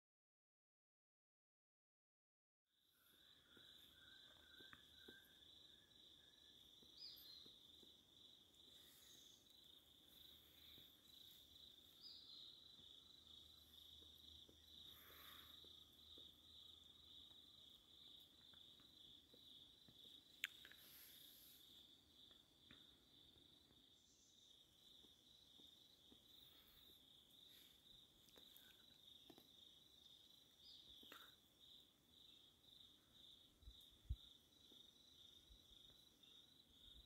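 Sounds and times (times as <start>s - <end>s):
high-pitched insect trill: 2.9s - 37.0s.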